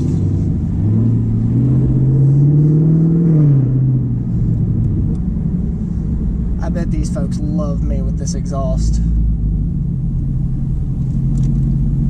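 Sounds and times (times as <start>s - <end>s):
car engine pulling away: 0.0s - 7.7s, 8.8s - 12.0s.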